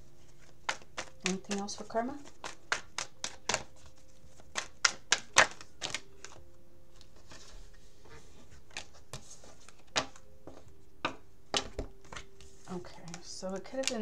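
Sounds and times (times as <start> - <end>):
cards being shuffled: 0.2 - 6.4, 7.0 - 10.3, 11.5 - 14.0.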